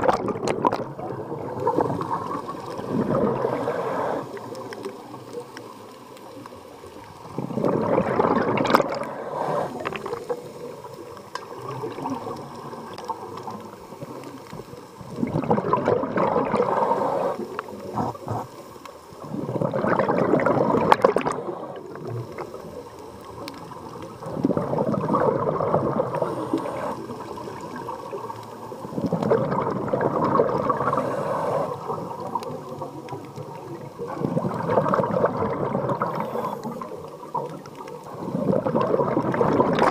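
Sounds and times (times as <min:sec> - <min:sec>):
low steady hiss: 0:00.0 - 0:39.9
underwater bubbles gurgling: 0:00.0 - 0:39.9.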